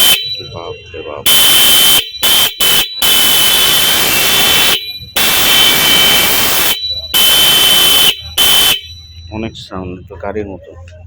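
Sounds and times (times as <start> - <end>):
electric horn blasts: 0.0 - 9.0.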